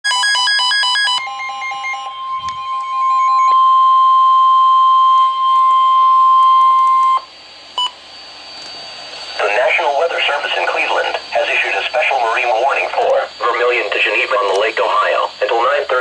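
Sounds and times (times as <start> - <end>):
rapid multi-pitched alarm beeps: 0.1 - 8.4, 9.3 - 16.0
steady high alarm tone: 0.1 - 16.0.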